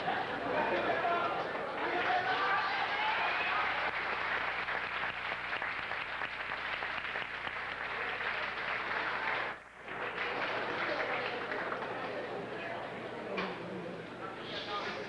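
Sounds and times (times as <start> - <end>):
crowd applauding: 0.0 - 12.9.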